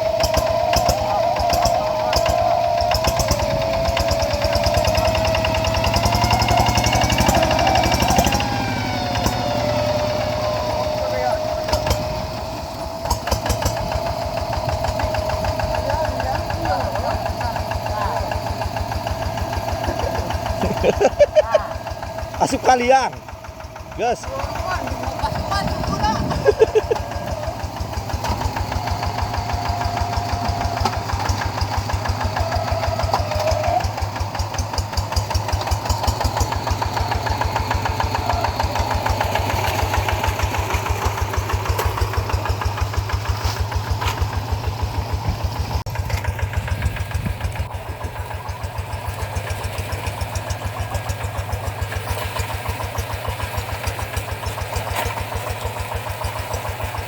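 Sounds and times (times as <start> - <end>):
tractor engine thumping: 0.0 - 57.0.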